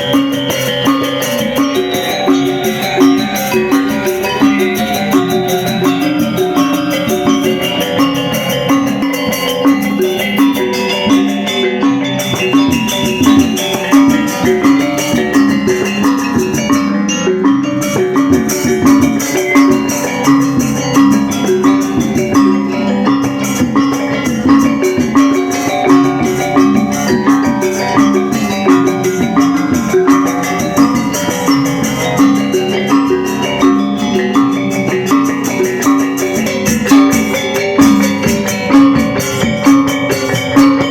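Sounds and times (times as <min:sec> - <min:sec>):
bell-like struck notes: 0:00.0 - 0:40.9
percussion beat: 0:00.0 - 0:40.9.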